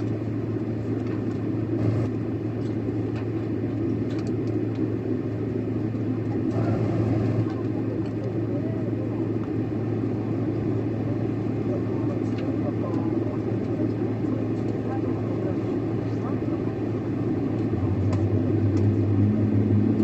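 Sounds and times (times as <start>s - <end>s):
jet engine cabin drone: 0.0s - 20.0s
low hum: 0.0s - 20.0s.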